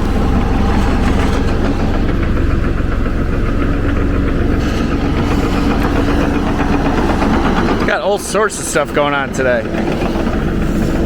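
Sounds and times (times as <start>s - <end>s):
steady whine: 0.0s - 11.0s
tractor engine running: 0.0s - 11.0s.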